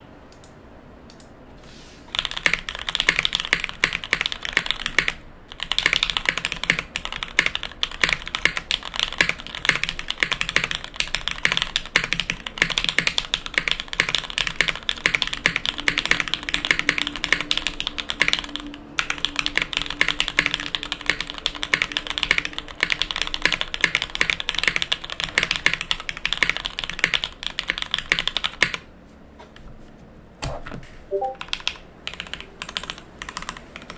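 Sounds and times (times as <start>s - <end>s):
fast typing on mechanical keyboard: 2.1s - 28.9s, 31.4s - 33.9s.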